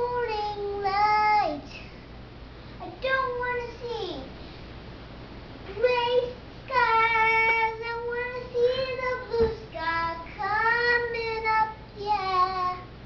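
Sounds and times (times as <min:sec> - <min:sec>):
girl singing unaccompanied: 0:00.0 - 0:01.9, 0:02.8 - 0:04.3, 0:05.7 - 0:13.0.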